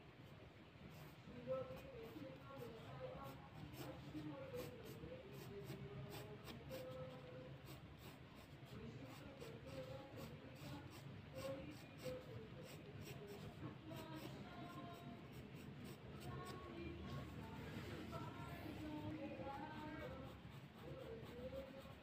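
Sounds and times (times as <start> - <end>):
pencil scratching on paper: 0.9 - 17.3, 18.8 - 22.0.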